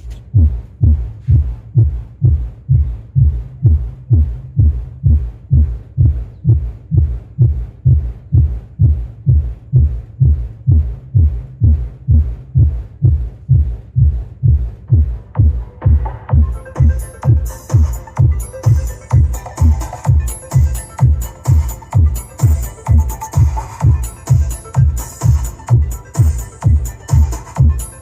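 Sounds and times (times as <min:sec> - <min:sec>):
deep subwoofer bass thumps: 0:00.0 - 0:28.0.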